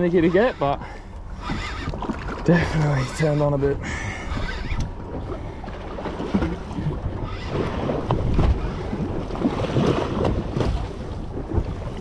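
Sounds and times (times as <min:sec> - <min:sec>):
water splashing and sloshing: 0:00.0 - 0:12.0
wind buffeting microphone: 0:00.0 - 0:12.0.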